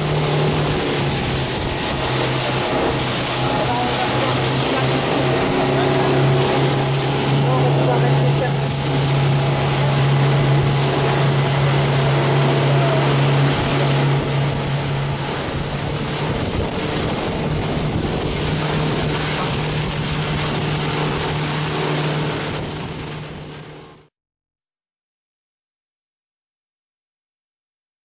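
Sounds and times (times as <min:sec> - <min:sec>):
wind rushing: 0:00.0 - 0:23.5
motorboat engine running: 0:00.0 - 0:24.1
water rushing past: 0:00.0 - 0:24.1.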